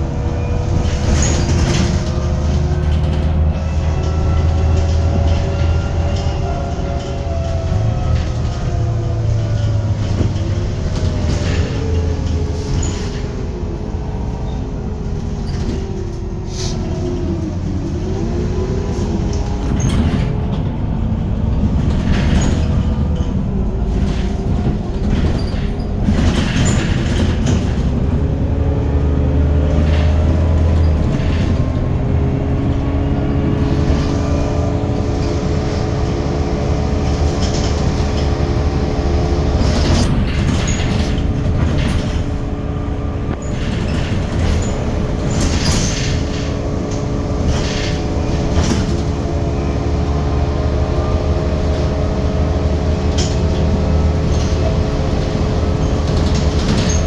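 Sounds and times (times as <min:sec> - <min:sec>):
bus engine and transmission whine: 0:00.0 - 0:57.0
clunks and rattles: 0:00.0 - 0:57.0.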